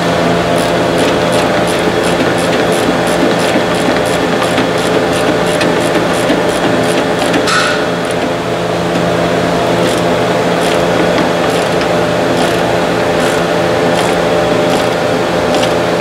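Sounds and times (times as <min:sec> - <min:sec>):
machinery humming: 0:00.0 - 0:16.0.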